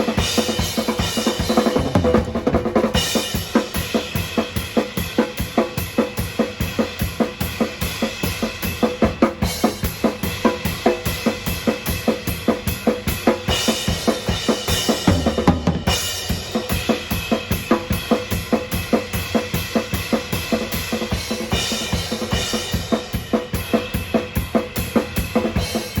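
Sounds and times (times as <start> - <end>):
drum kit beat: 0.0 - 26.0.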